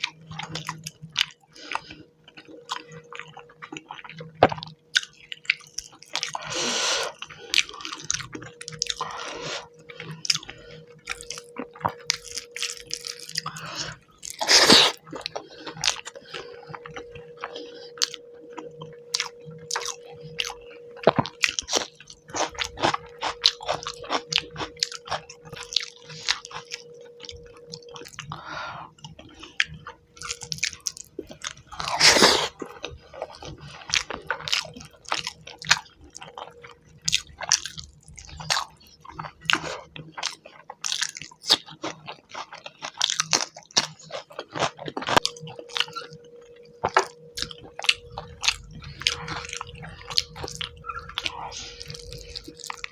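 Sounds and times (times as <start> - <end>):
wet chewing and lip smacks: 0.0 - 52.9.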